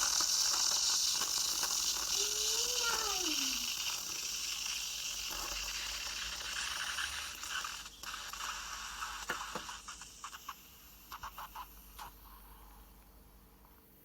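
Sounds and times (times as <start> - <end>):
coffee machine hissing: 0.0 - 13.6.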